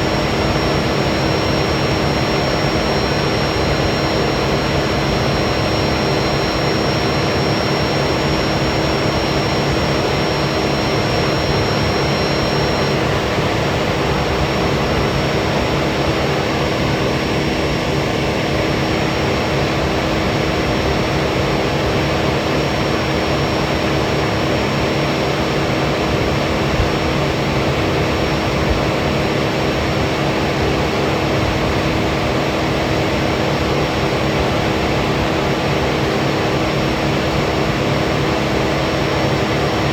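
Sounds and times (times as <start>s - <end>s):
faint high whine: 0.0s - 39.9s
heavy machinery engine drone: 0.0s - 39.9s.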